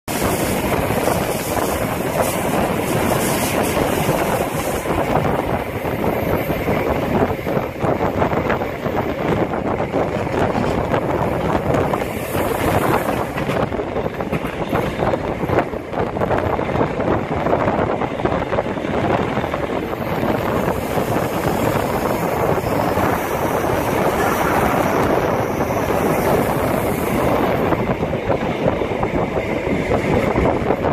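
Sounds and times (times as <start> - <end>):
train running on rails: 0.0 - 30.9.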